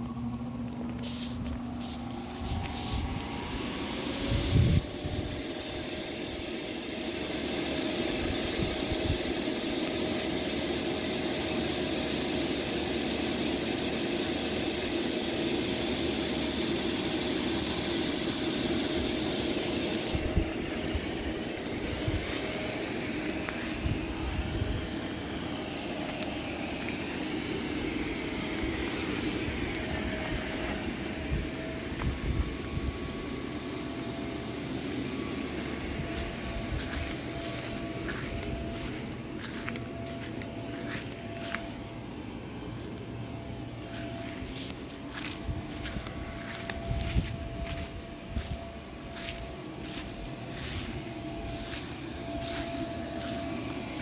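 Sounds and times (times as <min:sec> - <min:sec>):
electric air blower whining: 0:00.0 - 0:54.0.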